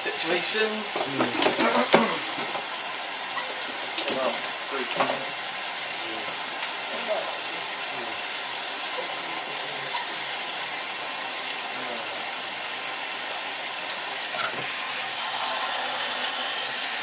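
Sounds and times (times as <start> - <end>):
washing machine filling with water: 0.0 - 17.0.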